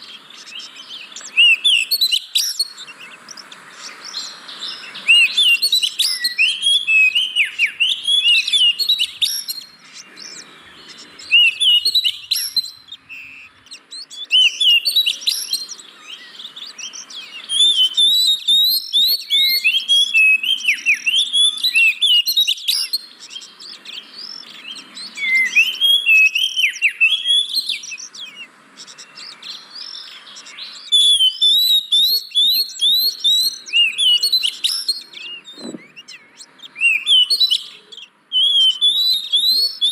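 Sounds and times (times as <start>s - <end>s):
bird whistles and chirps: 0.0s - 39.9s.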